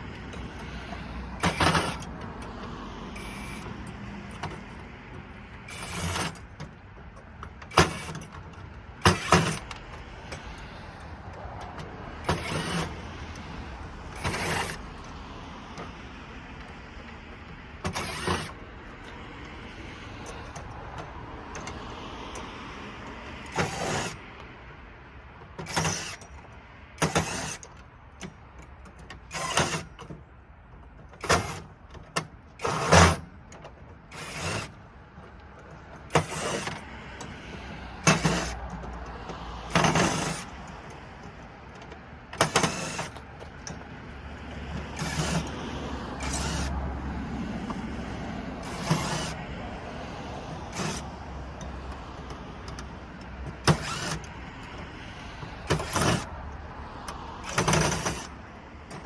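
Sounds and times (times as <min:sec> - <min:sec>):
metal and plastic parts clacking: 0:00.0 - 0:45.6, 0:46.2 - 0:46.8, 0:48.6 - 0:49.4, 0:50.5 - 0:59.0
steady background noise: 0:00.0 - 0:59.0.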